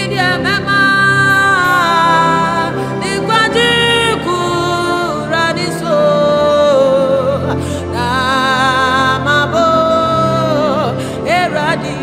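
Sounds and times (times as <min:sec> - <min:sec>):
woman singing gospel song: 0:00.0 - 0:12.0.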